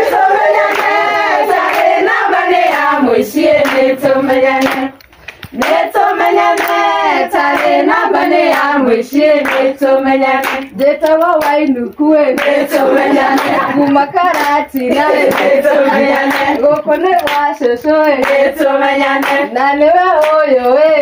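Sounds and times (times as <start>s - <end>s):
women singing together: 0.0s - 21.0s
hand claps: 0.1s - 20.8s.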